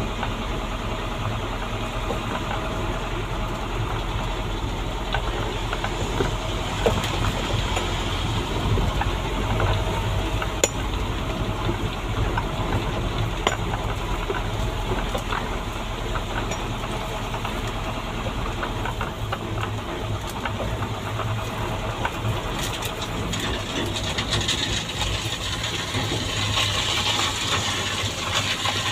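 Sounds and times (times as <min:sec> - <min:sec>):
diesel truck engine running: 0:00.0 - 0:28.9
cab rattles: 0:01.1 - 0:28.9.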